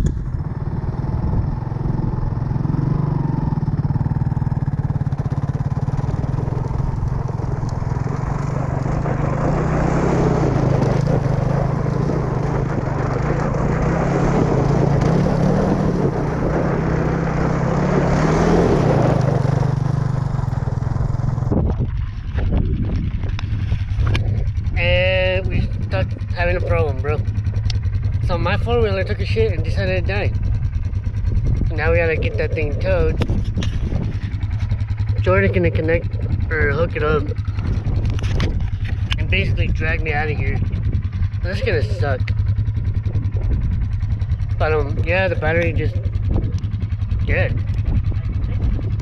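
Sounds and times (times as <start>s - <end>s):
atv engine running: 0.0s - 49.0s
wind and terrain noise: 0.0s - 49.0s.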